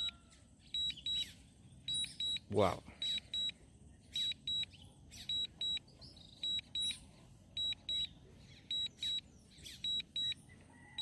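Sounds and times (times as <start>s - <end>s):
short high beeps in pairs: 0.0s - 7.0s, 7.6s - 10.4s.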